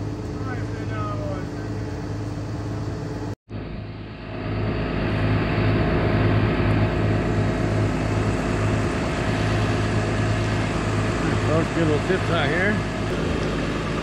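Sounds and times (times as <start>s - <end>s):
heavy equipment engine running: 0.0s - 14.0s.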